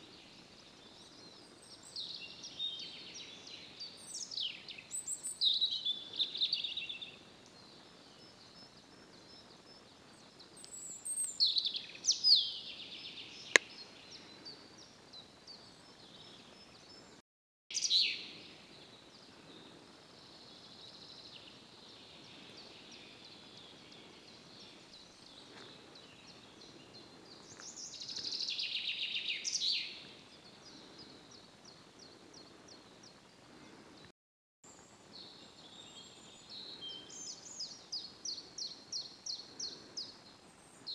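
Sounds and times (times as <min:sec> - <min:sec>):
songbirds singing: 0:00.0 - 0:34.1, 0:34.7 - 0:40.9.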